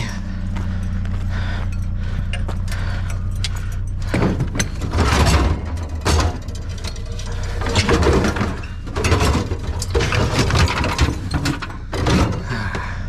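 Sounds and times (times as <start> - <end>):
low steady rumble: 0.0 - 13.0
knocks and rattles: 1.6 - 13.0.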